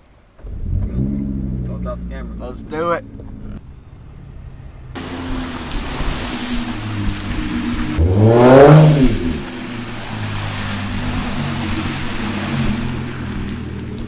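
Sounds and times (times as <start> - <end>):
car engine revving: 0.4 - 14.0.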